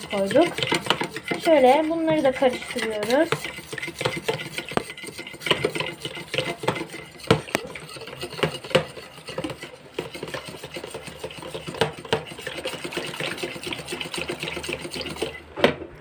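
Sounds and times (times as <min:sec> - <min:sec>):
whisk wires clicking on container: 0:00.0 - 0:15.4
whisk beating batter: 0:00.0 - 0:15.6.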